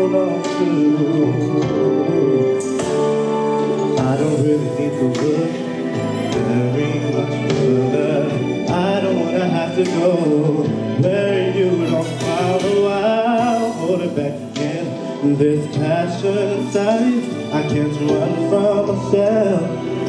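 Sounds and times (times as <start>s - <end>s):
musical accompaniment with bass: 0.0s - 20.0s
person singing into microphone: 0.0s - 20.0s.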